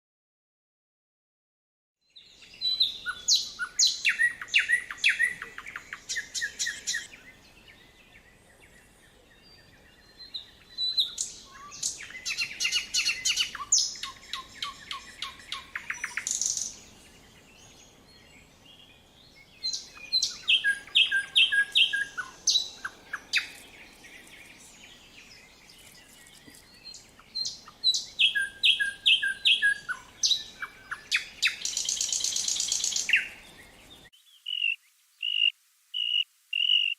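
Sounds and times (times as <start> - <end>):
songbird singing: 2.0 - 36.9.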